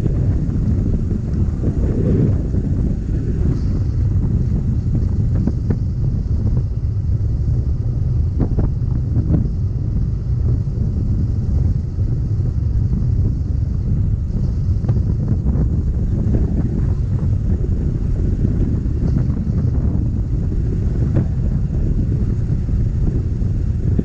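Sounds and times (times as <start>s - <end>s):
motorcycle engine and road rumble: 0.0s - 24.0s
wind buffeting microphone: 0.0s - 24.0s.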